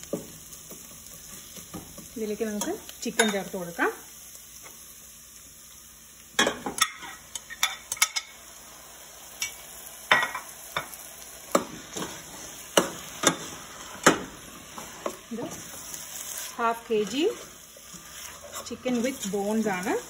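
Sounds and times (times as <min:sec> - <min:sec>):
food sizzling: 0:00.0 - 0:20.0.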